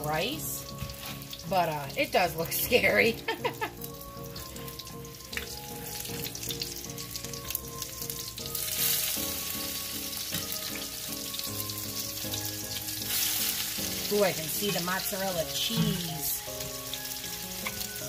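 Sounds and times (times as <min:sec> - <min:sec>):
fritters sizzling in oil: 0:00.0 - 0:18.0.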